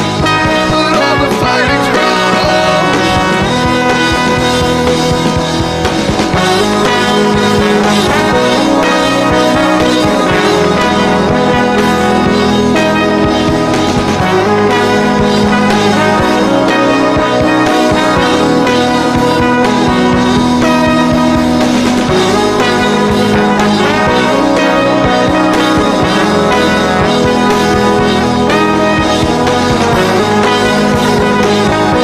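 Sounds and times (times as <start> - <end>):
brass lines: 0.0 - 32.0
steady drum beat: 0.0 - 32.0.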